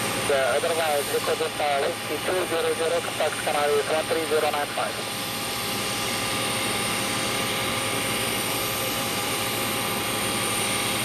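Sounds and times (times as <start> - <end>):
jet engine whine: 0.0 - 11.0.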